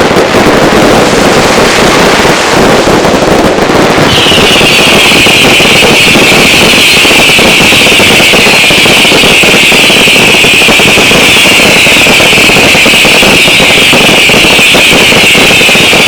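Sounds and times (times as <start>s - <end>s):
fireworks crackling: 0.0s - 16.0s
shrill whistling fireworks: 0.0s - 16.0s.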